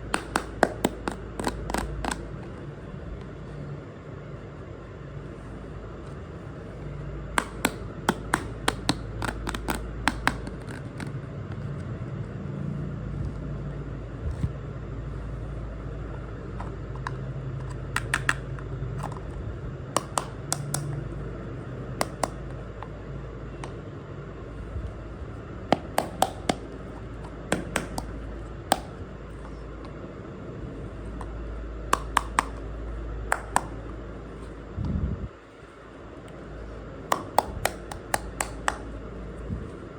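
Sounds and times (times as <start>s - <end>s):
low hum: 0.0s - 39.9s.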